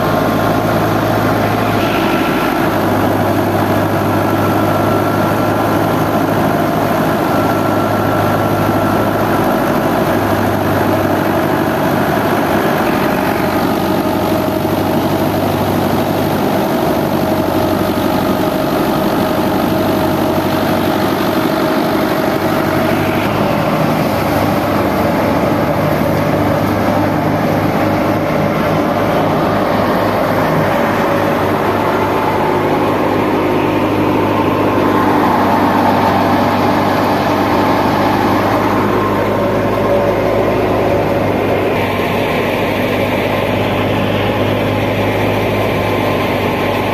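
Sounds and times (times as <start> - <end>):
tractor engine driving thresher: 0.0 - 46.9.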